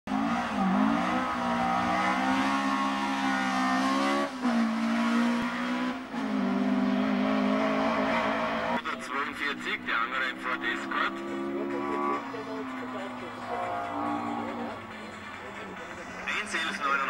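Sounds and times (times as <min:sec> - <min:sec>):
rally car engine at high revs: 0:00.1 - 0:17.0.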